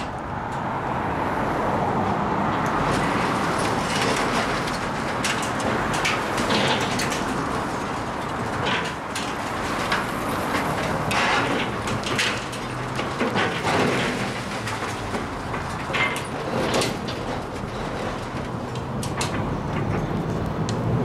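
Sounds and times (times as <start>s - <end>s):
machine engine rumble: 0.0s - 21.0s
debris scraping and clattering: 2.6s - 20.3s.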